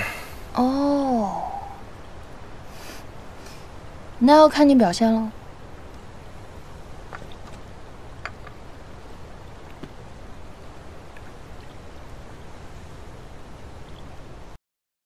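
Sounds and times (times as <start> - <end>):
steady hiss: 0.0 - 14.6.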